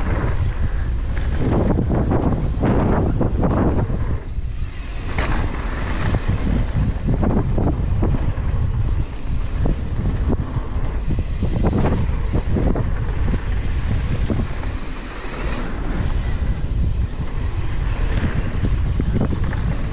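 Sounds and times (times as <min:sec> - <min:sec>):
bike rattling over bumps: 0:00.0 - 0:19.9
tyres rolling over dirt: 0:00.0 - 0:19.9
wind buffeting microphone: 0:00.0 - 0:19.9.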